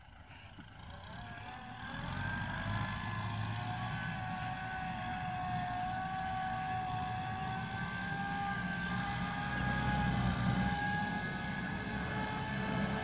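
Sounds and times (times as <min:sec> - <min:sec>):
tractor engine rumbling with whine: 0:00.0 - 0:13.0.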